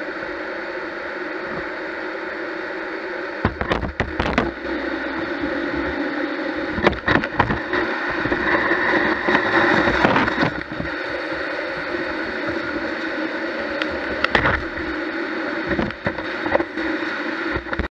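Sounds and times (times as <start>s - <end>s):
gutter vacuum running: 1.2s - 17.9s.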